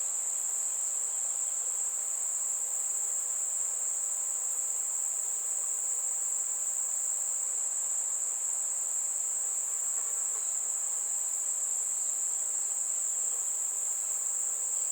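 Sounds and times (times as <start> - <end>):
insects droning: 0.0 - 14.9.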